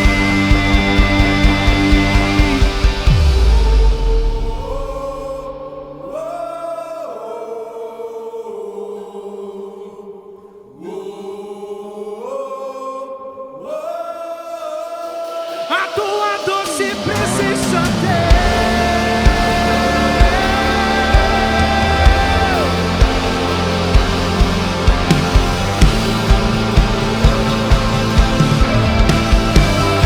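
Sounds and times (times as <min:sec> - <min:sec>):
soft live worship music: 0:00.0 - 0:11.6, 0:13.6 - 0:30.0.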